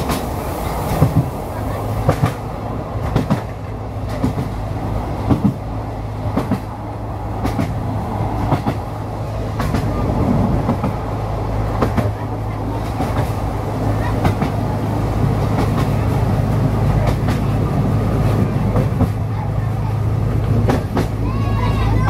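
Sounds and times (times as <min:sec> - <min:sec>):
wheels clicking over rail joints: 0:00.0 - 0:22.0.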